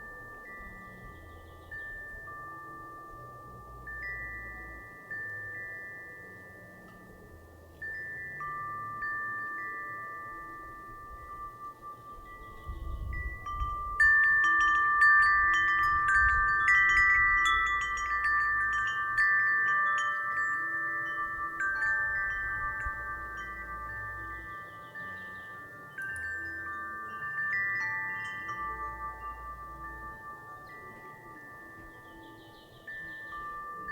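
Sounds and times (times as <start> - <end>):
low wind rumble: 0.0 - 33.9
wind chime ringing: 0.0 - 33.9.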